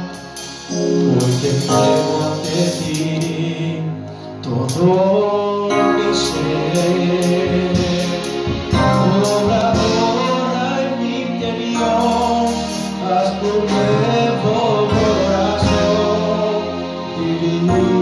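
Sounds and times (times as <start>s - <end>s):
drum kit: 0.0s - 3.7s, 4.5s - 18.0s
electric keyboard chords: 0.0s - 18.0s.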